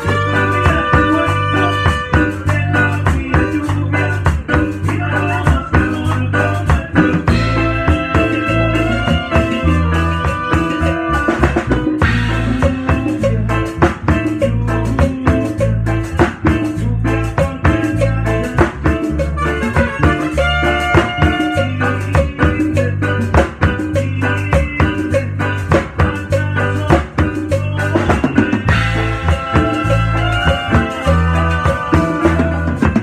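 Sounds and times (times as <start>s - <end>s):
drum kit beat: 0.0s - 33.0s
heavy bass line: 0.0s - 33.0s
live band playing: 0.0s - 33.0s.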